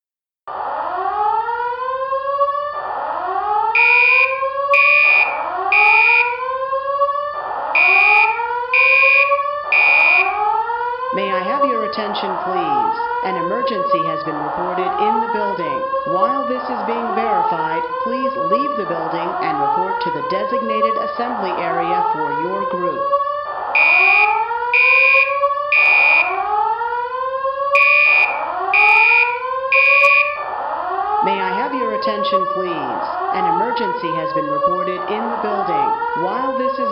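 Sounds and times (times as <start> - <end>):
fire alarm whoop tone: 0.5 - 36.9
high steady alarm beeps: 3.6 - 7.0, 7.7 - 26.8, 27.6 - 36.9.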